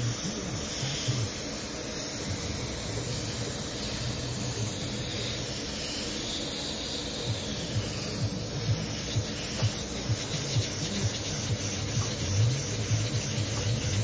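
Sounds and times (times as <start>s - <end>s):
air compressor running: 0.0s - 14.0s
airbrush hissing: 0.0s - 14.0s.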